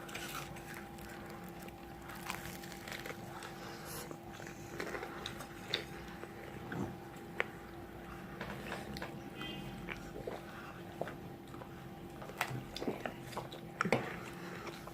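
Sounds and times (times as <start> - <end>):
chewing crispy fried food: 0.0 - 14.9.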